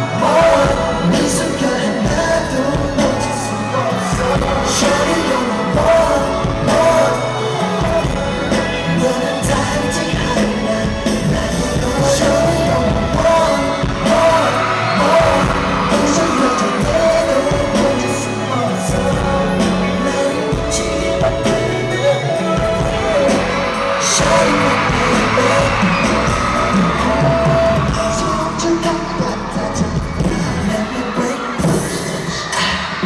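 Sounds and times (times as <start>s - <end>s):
live pop concert music: 0.0s - 33.0s.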